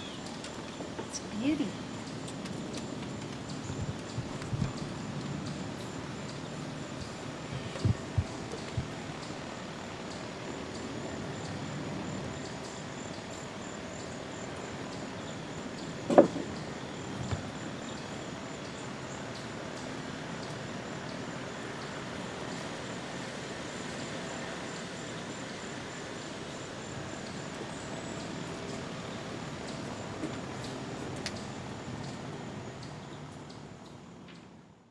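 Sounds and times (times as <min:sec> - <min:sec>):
insect chirping: 0:00.0 - 0:34.1.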